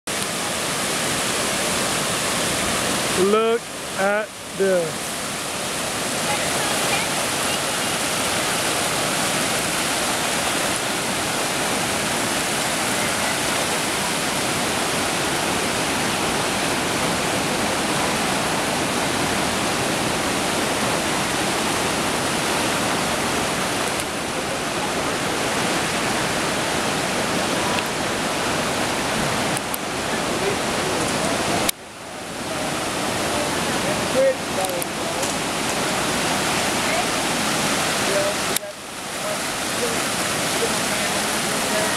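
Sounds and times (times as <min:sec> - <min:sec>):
floodwater rushing: 0:00.0 - 0:41.9.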